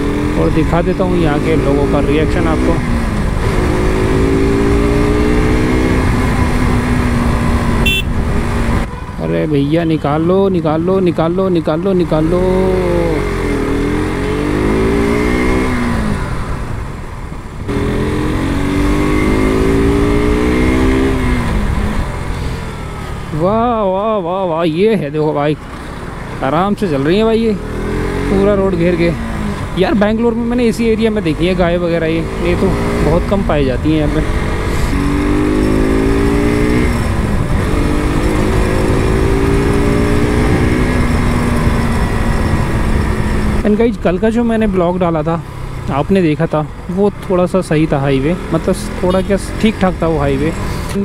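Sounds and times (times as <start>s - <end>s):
motorcycle engine accelerating: 0.0s - 8.9s, 12.0s - 23.9s, 25.6s - 51.0s.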